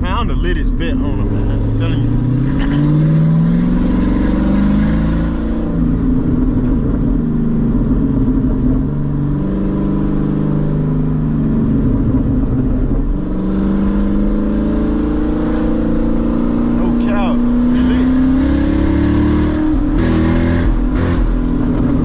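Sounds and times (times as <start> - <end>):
car engine exhaust from cabin: 0.0 - 22.0.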